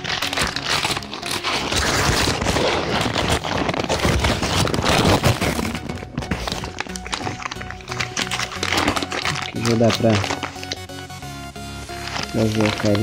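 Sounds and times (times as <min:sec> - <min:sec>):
paper tearing and crumpling: 0:00.0 - 0:13.0.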